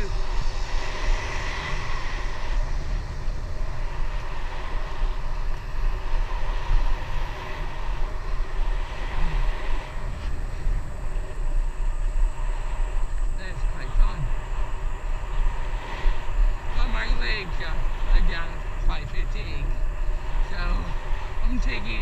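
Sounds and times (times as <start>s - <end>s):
bicycle tyres on asphalt: 0.0s - 22.0s
wind buffeting microphone: 0.0s - 22.0s.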